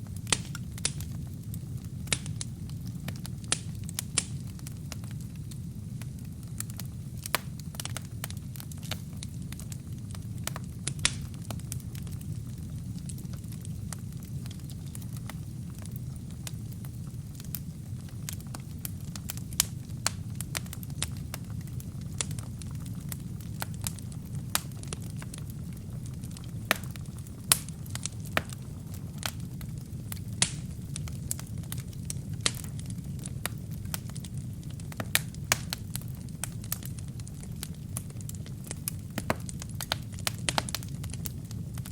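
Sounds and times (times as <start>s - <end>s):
flames rushing: 0.0s - 41.9s
wood crackling and popping: 0.0s - 41.9s.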